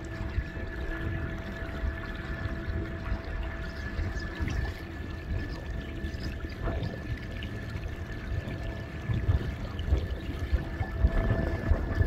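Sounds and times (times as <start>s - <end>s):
electric trolling motor whine: 0.0s - 12.0s
low irregular rumble: 0.0s - 12.0s.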